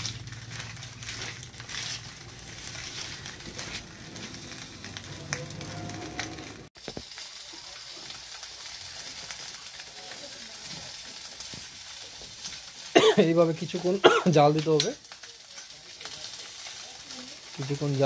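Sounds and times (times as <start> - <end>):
fire crackling: 0.0 - 18.0
fish sizzling in a wok: 0.0 - 18.0.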